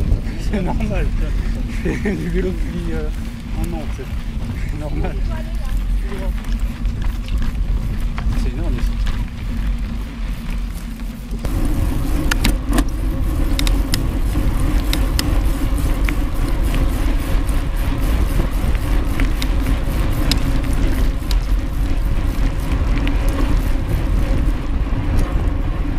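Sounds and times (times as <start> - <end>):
bike ticks and rattles: 0.0 - 25.9
bike tyres on gravel track: 0.0 - 25.9
wind buffeting microphone: 0.0 - 25.9.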